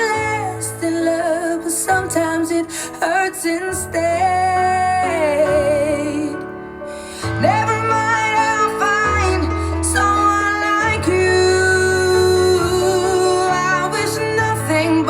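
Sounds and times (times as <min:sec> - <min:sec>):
pop song through smart speaker: 0:00.0 - 0:06.4, 0:07.2 - 0:15.0.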